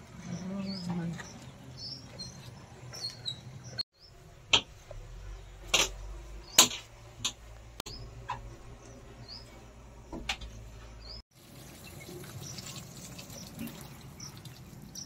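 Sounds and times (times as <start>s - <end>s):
birds chirping: 0.0s - 7.2s, 7.9s - 15.0s.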